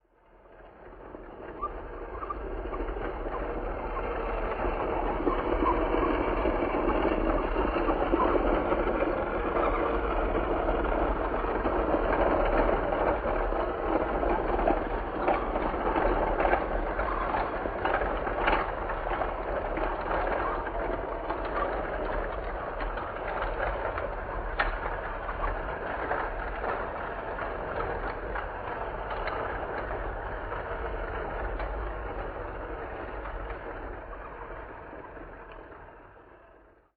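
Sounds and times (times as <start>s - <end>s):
freight train rumbling on rails: 0.4s - 36.6s
wheels clicking and clanking: 0.6s - 36.6s.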